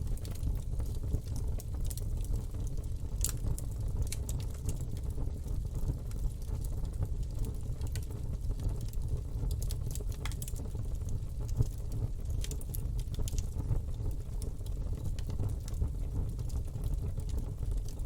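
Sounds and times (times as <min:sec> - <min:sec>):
campfire crackling and popping: 0:00.1 - 0:18.0.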